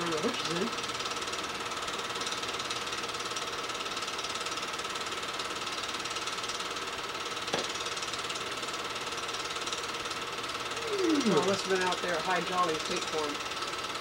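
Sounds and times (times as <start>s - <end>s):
film projector clattering: 0.0s - 14.0s.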